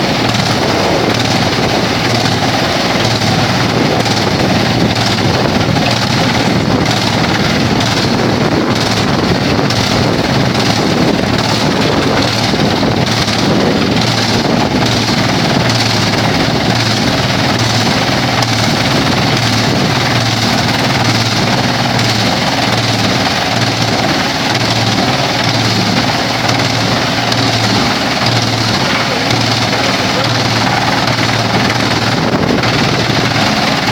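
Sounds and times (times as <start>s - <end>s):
wood chipper running: 0.0s - 33.9s.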